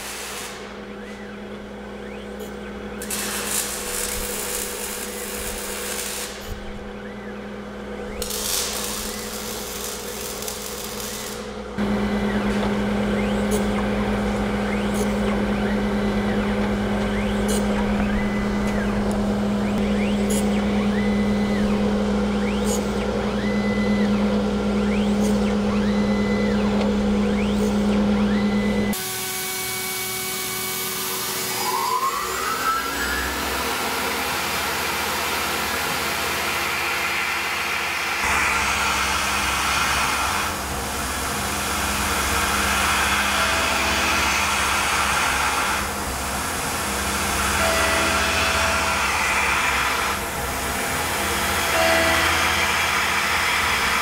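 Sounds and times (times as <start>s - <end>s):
end mill cutting metal: 0.0s - 54.0s
surface grinder motor hum: 0.0s - 54.0s
milling spindle whine: 0.6s - 54.0s.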